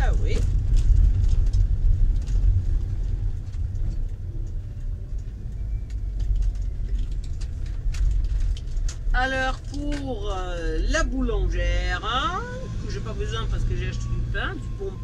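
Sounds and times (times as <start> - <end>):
van engine and tyres rumbling: 0.0 - 15.0.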